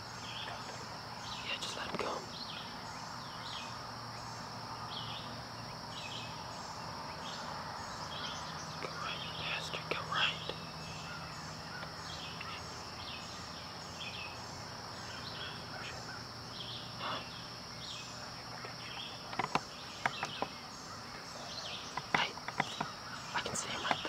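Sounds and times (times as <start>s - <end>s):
high insect buzz: 0.0s - 24.0s
songbirds chirping: 0.0s - 24.0s.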